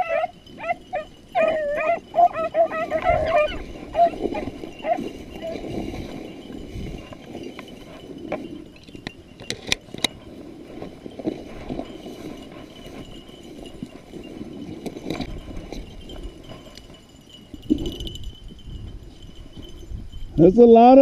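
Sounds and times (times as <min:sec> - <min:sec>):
footsteps through dry grass: 0:00.0 - 0:17.6.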